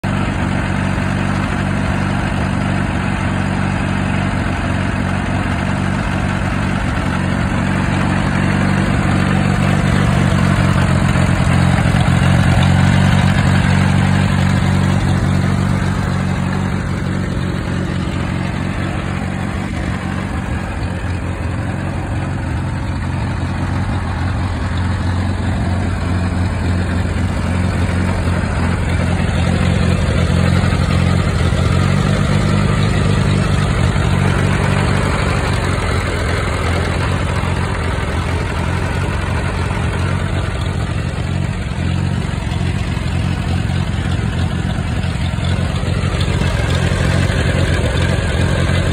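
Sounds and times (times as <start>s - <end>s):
tractor engine idling: 0.0s - 48.9s.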